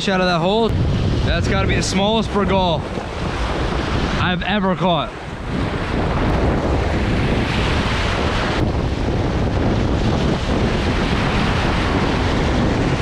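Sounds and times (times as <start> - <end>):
wind buffeting microphone: 0.0 - 13.0
surf breaking over rocks: 0.1 - 13.0.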